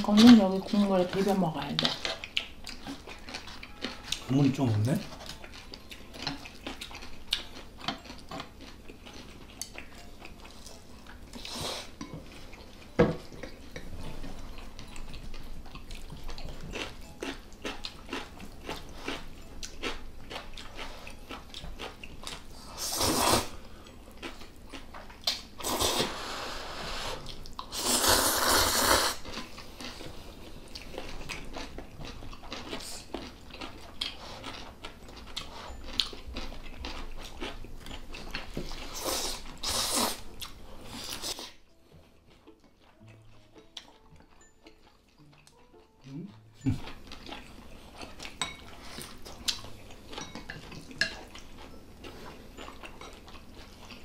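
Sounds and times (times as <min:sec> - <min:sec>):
chewing and slurping noodles: 0:00.0 - 0:54.0.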